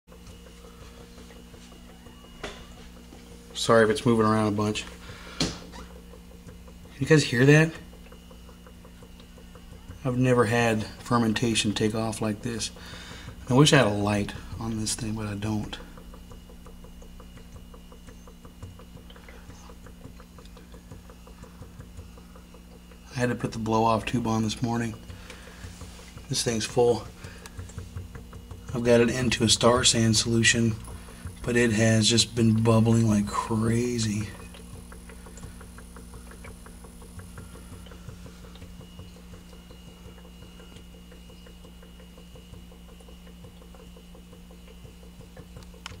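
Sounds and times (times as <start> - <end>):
rapid bubbling with small pops: 0.1 - 46.0
steady low hum: 0.1 - 46.0.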